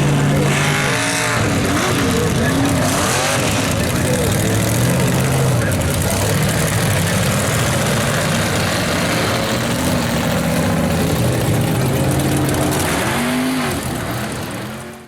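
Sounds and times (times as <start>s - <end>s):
truck engine running rough: 0.0s - 15.0s.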